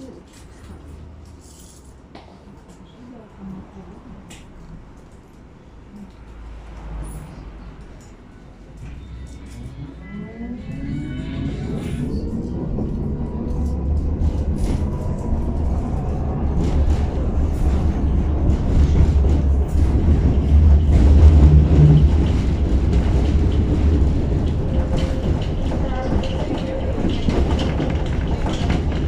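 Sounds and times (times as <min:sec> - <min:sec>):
tram wheels rumbling on rails: 0:02.6 - 0:29.0.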